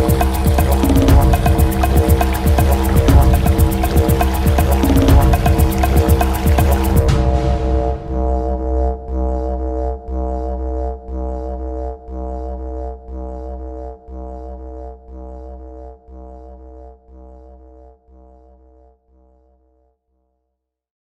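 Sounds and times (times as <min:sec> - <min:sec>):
low pulsing drone music: 0:00.0 - 0:17.3.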